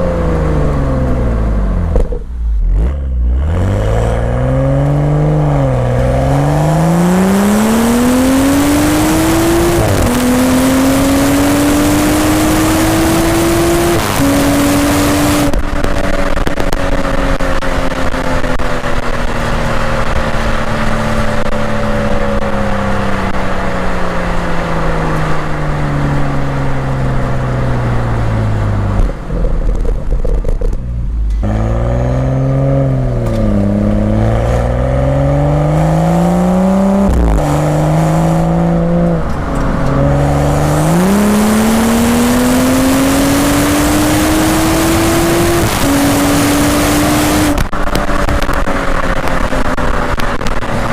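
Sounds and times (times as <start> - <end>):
car exhaust revving: 0.0 - 50.9.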